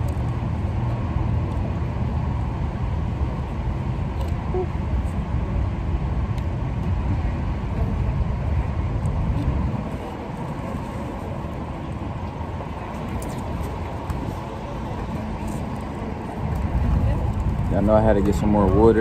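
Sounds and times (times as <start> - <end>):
steady low outdoor rumble: 0.0 - 19.0.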